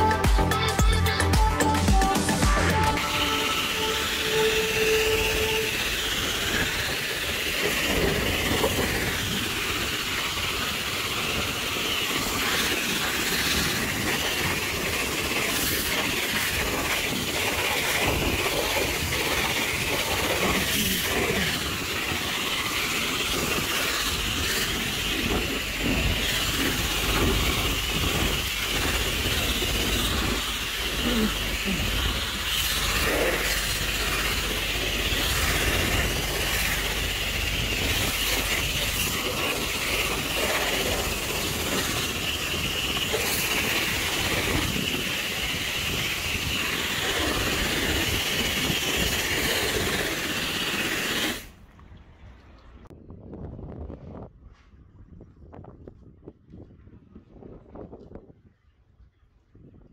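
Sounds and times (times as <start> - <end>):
pressure washer spraying hiss: 2.0 - 51.5.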